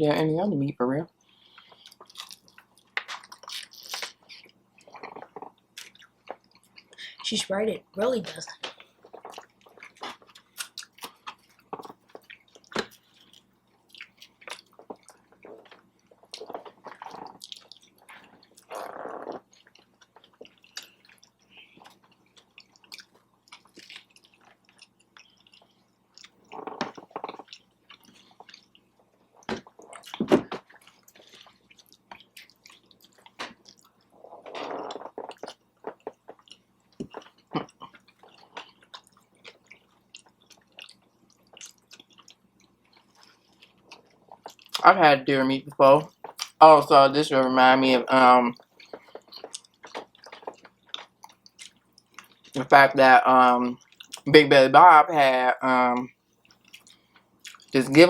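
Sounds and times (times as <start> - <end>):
wet chewing mouth sounds: 1.2 - 7.2, 8.7 - 44.8, 46.1 - 46.6, 48.5 - 52.6, 53.8 - 54.3, 56.4 - 57.7.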